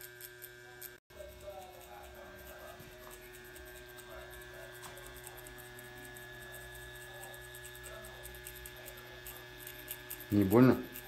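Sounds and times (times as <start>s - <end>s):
machine pen electric hum: 0.0s - 11.0s.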